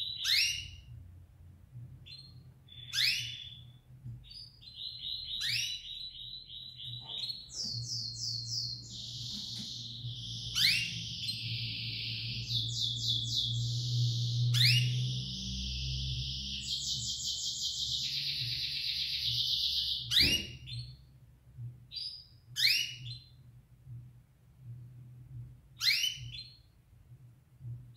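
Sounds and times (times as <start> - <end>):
canary singing: 0.0 - 1.1, 1.8 - 21.1, 21.9 - 23.4, 25.8 - 26.7
faint low hum: 0.0 - 27.9.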